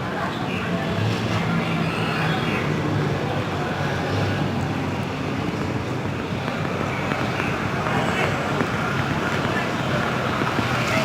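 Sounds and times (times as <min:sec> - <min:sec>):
city background rush: 0:00.0 - 0:11.0.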